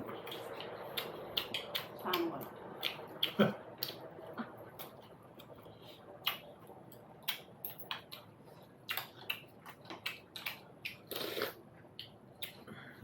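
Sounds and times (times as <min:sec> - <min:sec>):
chewing and wet mouth smacking: 0:00.1 - 0:12.7.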